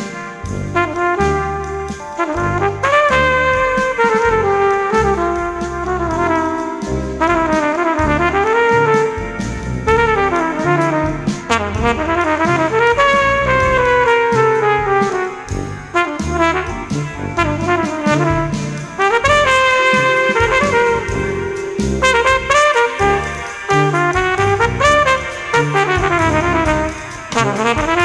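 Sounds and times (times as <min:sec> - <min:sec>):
baritone saxophone: 0:00.0 - 0:28.0
drum kit: 0:00.0 - 0:28.0
keyboards: 0:00.0 - 0:28.0
trumpet melody: 0:00.0 - 0:28.0
tuba: 0:00.0 - 0:28.0.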